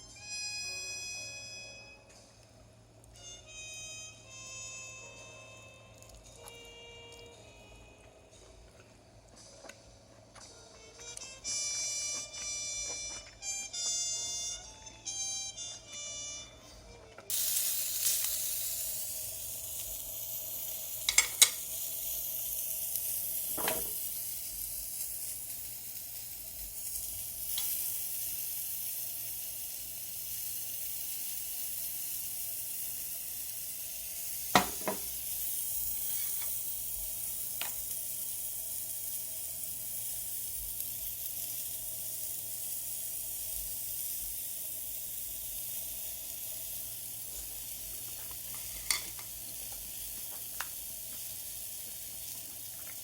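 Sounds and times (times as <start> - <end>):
food sizzling on griddle: 0.4 - 8.7, 10.6 - 16.4, 17.2 - 53.0.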